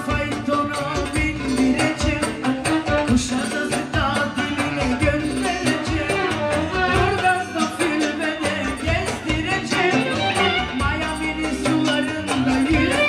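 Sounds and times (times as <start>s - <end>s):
song with singing and beat: 0.0s - 13.0s.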